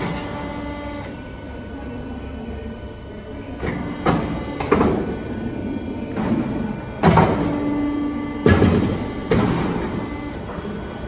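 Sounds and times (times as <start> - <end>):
machine whir: 0.0 - 11.0.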